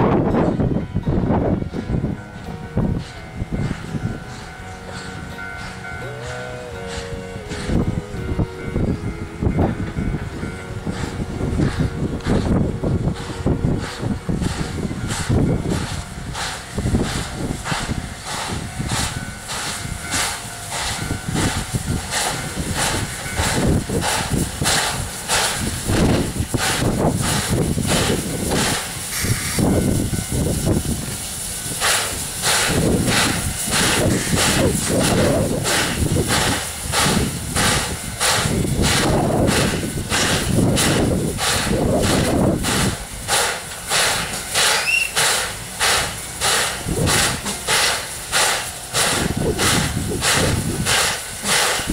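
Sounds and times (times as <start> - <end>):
wind buffeting microphone: 0.0 - 5.9, 6.8 - 51.9
steady hiss of steam: 0.0 - 51.9
steam locomotive chuffing: 0.0 - 51.9.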